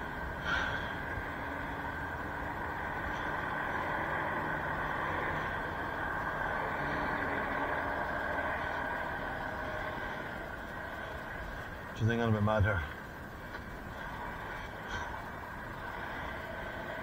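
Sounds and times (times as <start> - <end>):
lorry diesel engine running: 0.0 - 17.0
steady high whine: 0.0 - 17.0.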